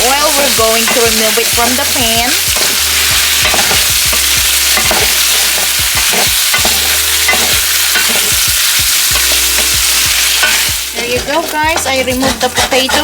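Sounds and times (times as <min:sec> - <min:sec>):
potatoes sizzling in oil: 0:00.0 - 0:13.0
utensil clinking and scraping pan: 0:00.0 - 0:13.0.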